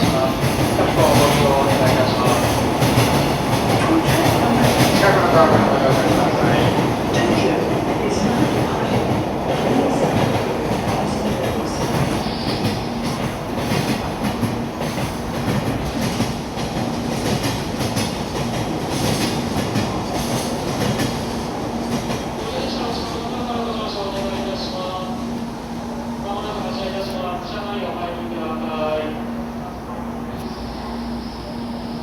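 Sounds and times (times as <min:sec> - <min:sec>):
train carriages rumbling: 0:00.0 - 0:32.0.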